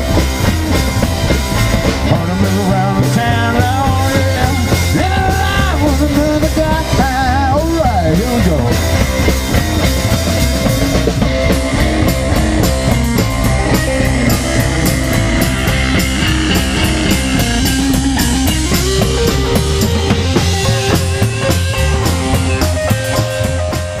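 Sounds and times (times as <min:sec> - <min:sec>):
drum kit steady beat: 0:00.0 - 0:24.0
electric guitar: 0:00.0 - 0:24.0
slapped upright bass: 0:00.0 - 0:24.0.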